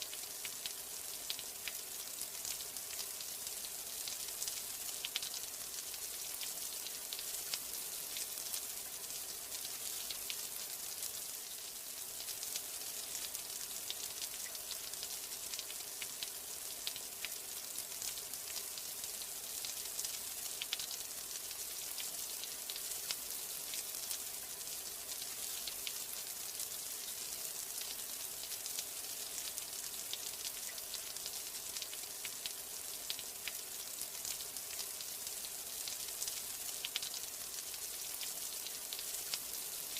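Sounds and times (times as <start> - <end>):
steady rain with drop ticks: 0.0 - 39.9.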